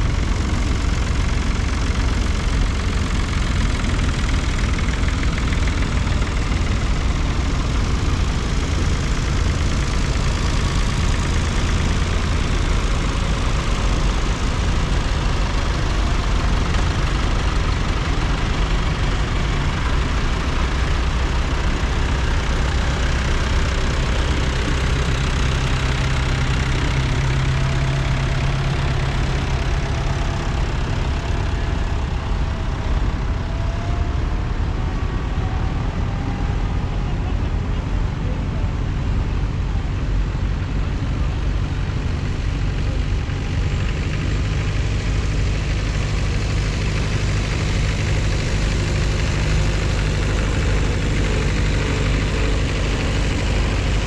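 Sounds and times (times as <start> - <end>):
tractor diesel engines driving past: 0.0 - 54.0.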